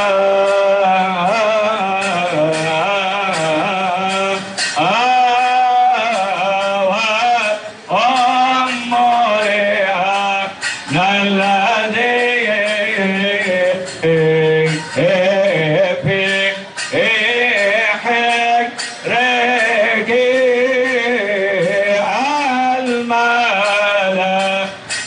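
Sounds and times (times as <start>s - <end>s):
man singing a hymn: 0.0s - 25.0s.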